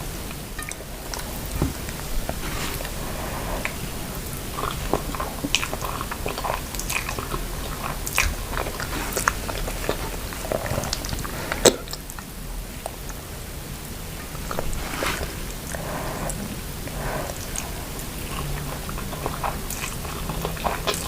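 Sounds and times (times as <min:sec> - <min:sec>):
biting and chewing food: 0:00.6 - 0:13.2, 0:14.4 - 0:21.0.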